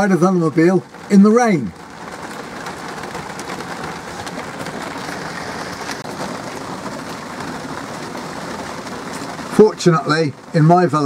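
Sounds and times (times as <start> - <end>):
heavy rain on shell: 0.0 - 11.0
raindrops ticking: 0.0 - 11.0.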